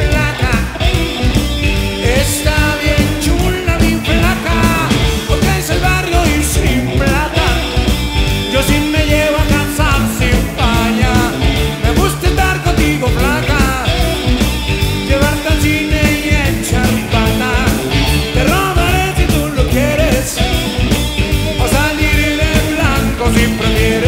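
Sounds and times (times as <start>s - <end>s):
man singing: 0.0s - 1.1s, 1.9s - 14.4s, 15.0s - 20.9s, 21.5s - 24.0s
live rock band playing: 0.0s - 24.0s.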